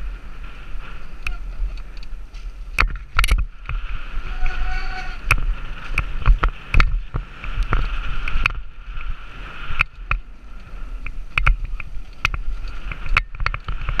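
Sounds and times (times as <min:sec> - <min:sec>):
bike rattling and knocking: 0:00.0 - 0:14.0
wind rumble on microphone: 0:00.0 - 0:14.0.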